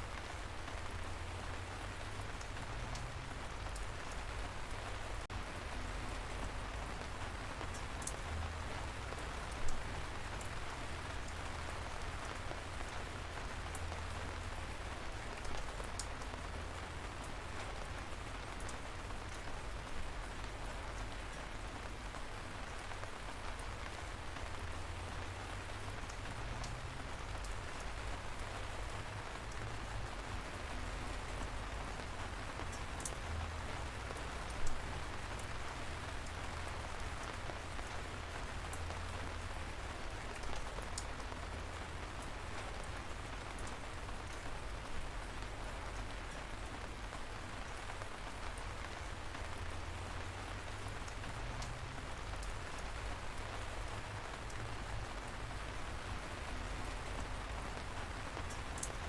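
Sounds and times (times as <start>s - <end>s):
light rain falling: 0.0s - 59.0s
raindrops ticking: 0.0s - 59.0s.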